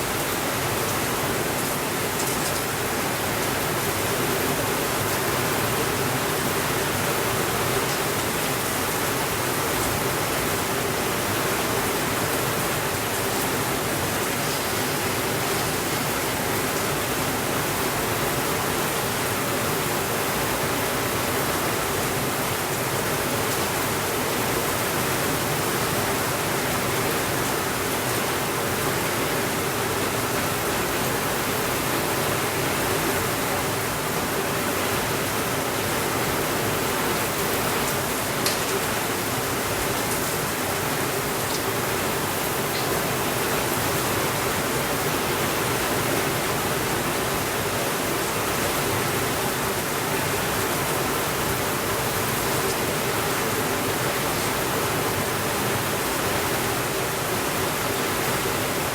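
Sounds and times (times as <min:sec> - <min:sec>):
heavy rain on a window: 0:00.0 - 0:58.9.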